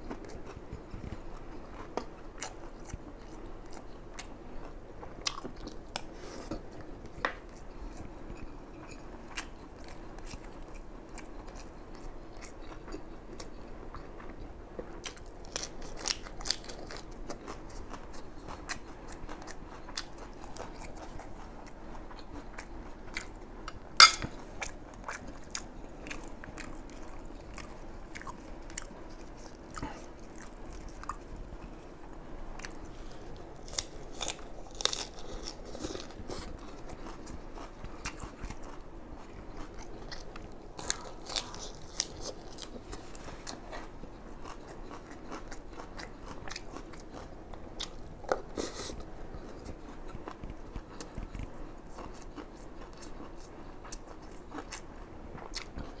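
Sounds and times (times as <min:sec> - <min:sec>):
chewing with wet mouth clicks: 0:07.4 - 0:31.3, 0:33.6 - 0:56.0.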